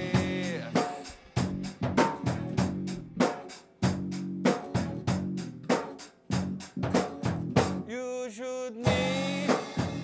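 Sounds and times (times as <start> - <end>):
bass: 0.0 - 7.9, 8.9 - 10.0
drum kit hits: 0.0 - 7.9, 8.9 - 10.0
guitar: 0.0 - 10.0.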